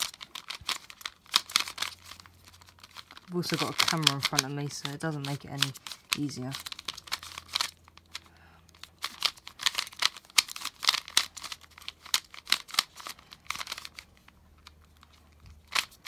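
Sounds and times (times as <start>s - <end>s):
plastic puzzle cube clacking: 0.0s - 16.0s.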